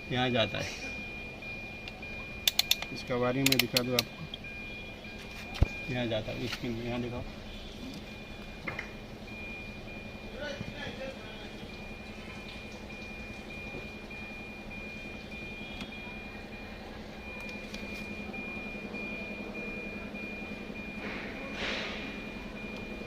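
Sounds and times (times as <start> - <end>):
low steady hum: 0.0 - 23.0
multimeter continuity beep: 0.0 - 23.0.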